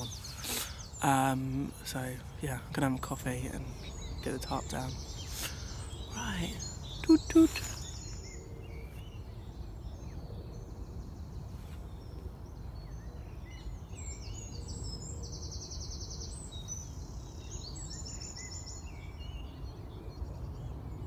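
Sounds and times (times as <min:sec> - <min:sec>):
small birds trilling: 0:00.0 - 0:21.0.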